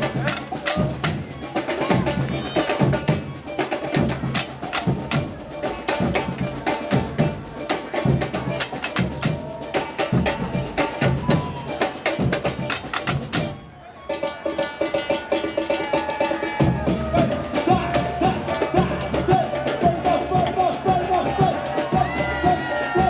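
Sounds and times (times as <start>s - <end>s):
samba drum ensemble: 0.0s - 23.0s.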